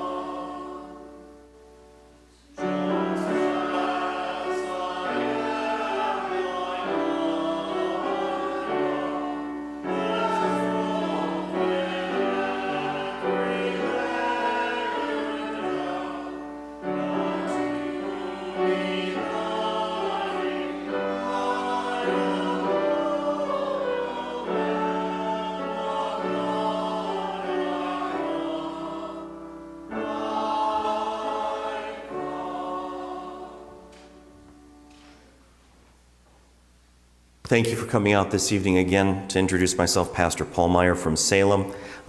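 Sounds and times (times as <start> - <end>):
choir singing a hymn: 0.0 - 35.4.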